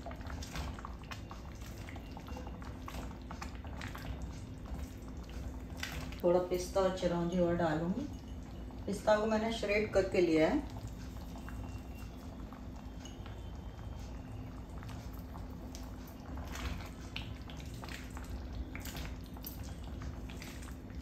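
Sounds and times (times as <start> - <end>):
milk simmering: 0.0 - 21.0.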